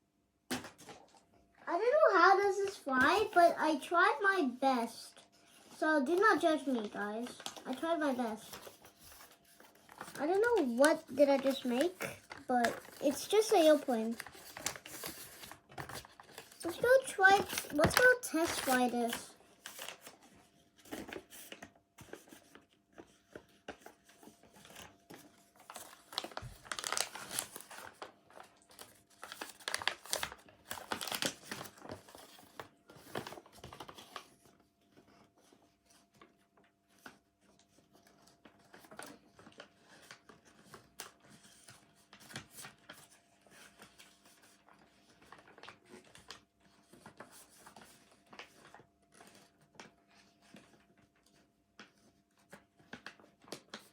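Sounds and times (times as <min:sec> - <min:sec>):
paper rustling and crinkling: 0:00.5 - 0:53.9.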